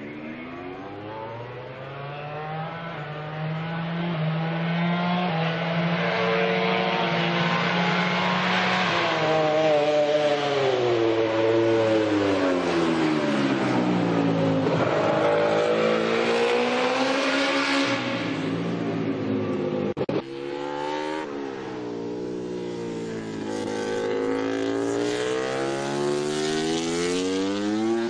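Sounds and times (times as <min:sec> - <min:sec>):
racing motorcycle engine revving: 0:00.0 - 0:21.6, 0:22.8 - 0:28.0.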